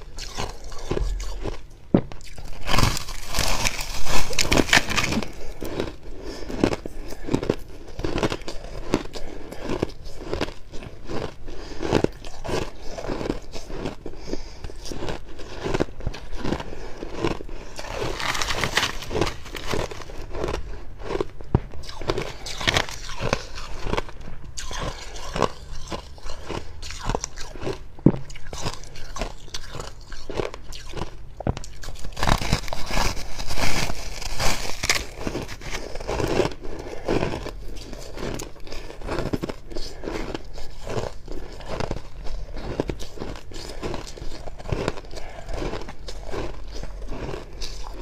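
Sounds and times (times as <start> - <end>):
chewing frost crunches: 0.0 - 48.0.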